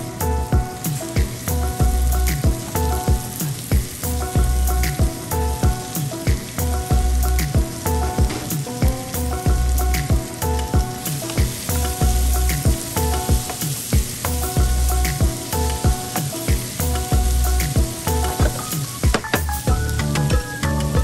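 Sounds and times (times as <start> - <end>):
background music with beat and bass: 0.0 - 21.0
vegetables sizzling in a frying pan: 0.0 - 21.0.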